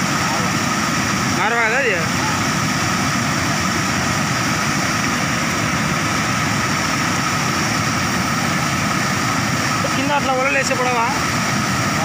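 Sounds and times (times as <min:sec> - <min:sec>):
floodwater rushing over a weir: 0:00.0 - 0:12.0.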